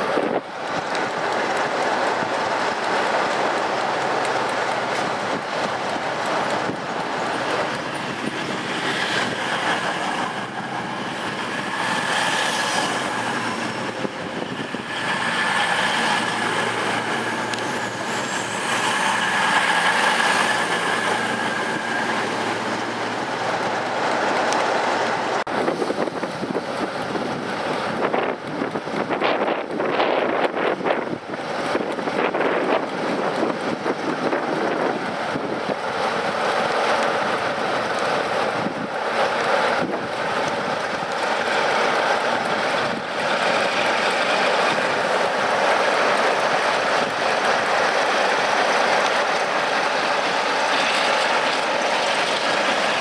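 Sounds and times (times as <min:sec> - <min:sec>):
train running with high whine: 0:00.0 - 0:53.0
train wheels clicking over track: 0:00.0 - 0:53.0.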